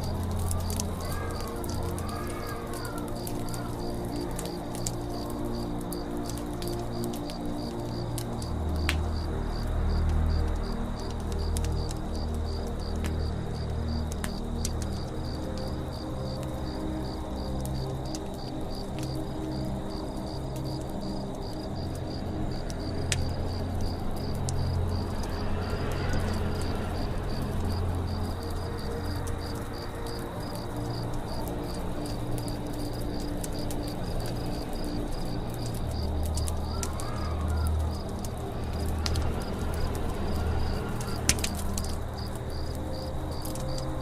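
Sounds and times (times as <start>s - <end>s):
crickets chirring: 0.0s - 44.0s
fire crackling and popping: 0.0s - 44.0s.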